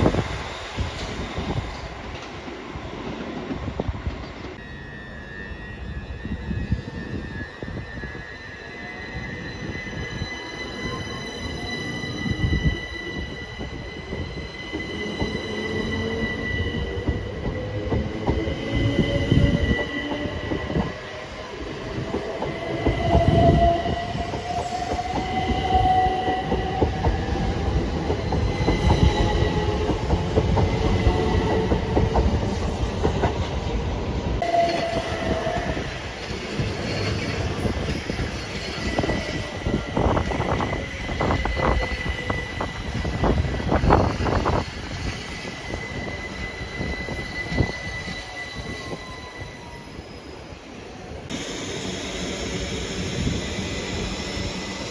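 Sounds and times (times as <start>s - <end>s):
train wheels rumbling and clattering: 0.0s - 4.6s, 9.2s - 49.7s.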